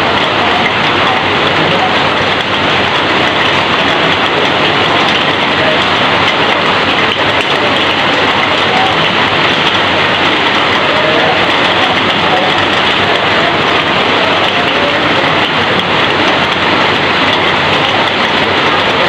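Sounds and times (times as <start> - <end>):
heavy rain on metal roof: 0.0 - 19.0.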